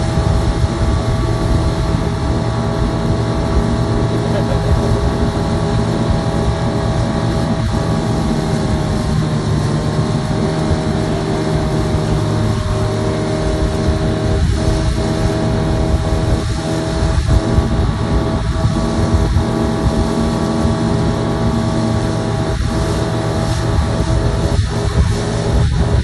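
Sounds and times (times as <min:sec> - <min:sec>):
motorboat engine running: 0:00.0 - 0:26.0
wake water rushing: 0:00.0 - 0:26.0.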